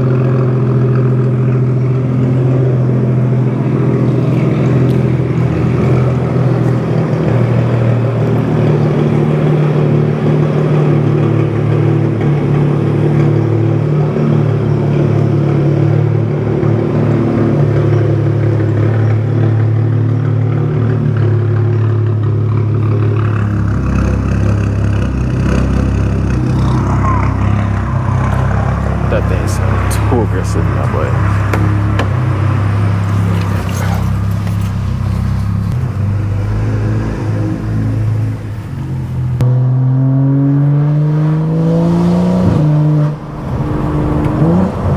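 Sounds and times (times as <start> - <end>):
car engine droning through exhaust: 0.0 - 44.9.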